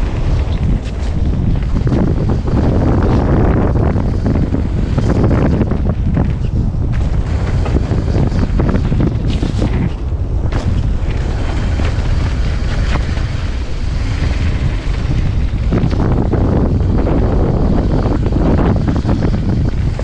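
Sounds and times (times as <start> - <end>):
bike rattling and knocking: 0.0 - 20.0
tyres on dirt trail: 0.0 - 20.0
wind rushing over microphone: 0.0 - 20.0.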